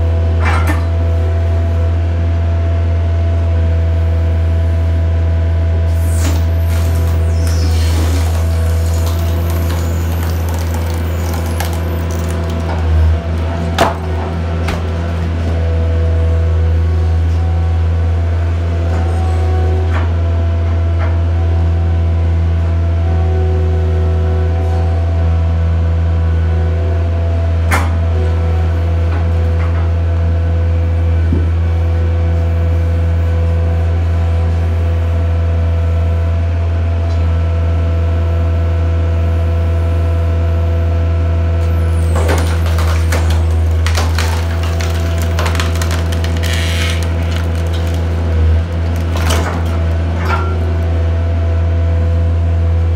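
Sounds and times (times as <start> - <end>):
skid steer engine running: 0.0 - 52.9.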